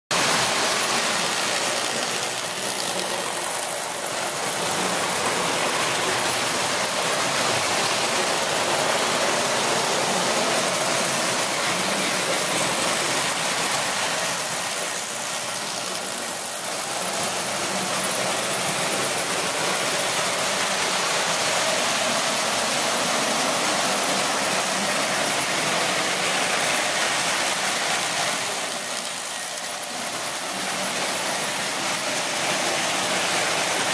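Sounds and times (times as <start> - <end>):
toy trains whirring and rattling: 0.1 - 33.9.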